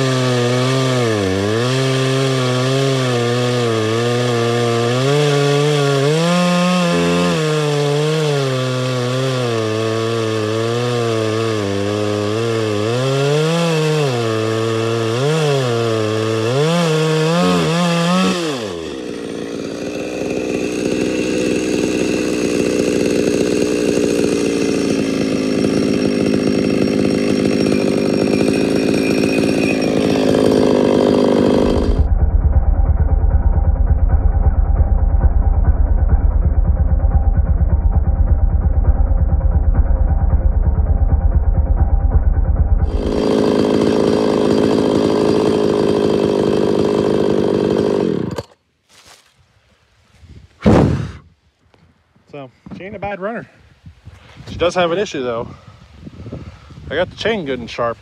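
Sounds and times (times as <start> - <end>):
chainsaw cutting log: 0.0 - 49.3, 50.6 - 51.3, 54.2 - 58.0.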